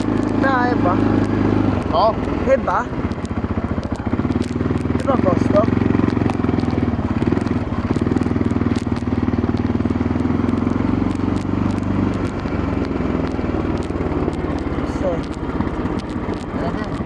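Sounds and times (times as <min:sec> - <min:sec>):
quad bike engine running: 0:00.0 - 0:17.0
small clicks and crackles: 0:00.0 - 0:17.0.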